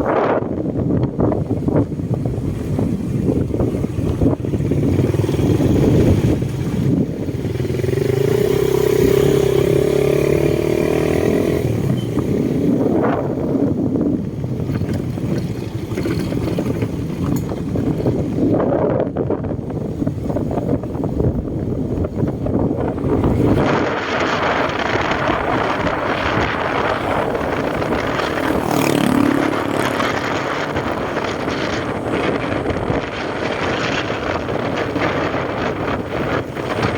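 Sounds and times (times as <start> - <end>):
wind rumble on microphone: 0.0 - 36.9
motor engine running: 1.8 - 18.9, 20.0 - 36.9.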